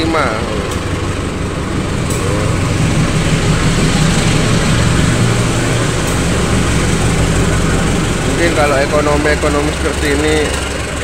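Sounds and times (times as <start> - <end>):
diesel locomotive drone: 0.0 - 11.0
train coaches rolling on rails: 0.0 - 11.0.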